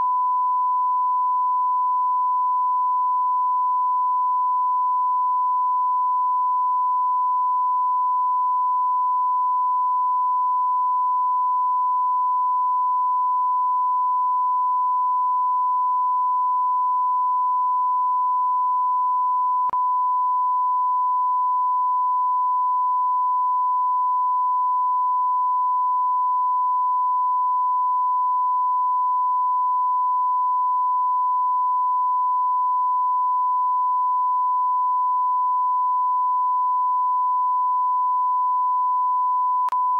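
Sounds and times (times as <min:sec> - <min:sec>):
steady sine-wave test tone: 0:00.0 - 0:39.9.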